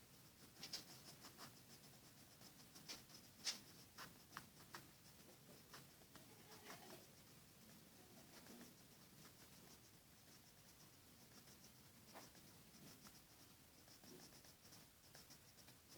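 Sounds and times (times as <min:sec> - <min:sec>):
pencil scratching on paper: 0:00.0 - 0:15.9.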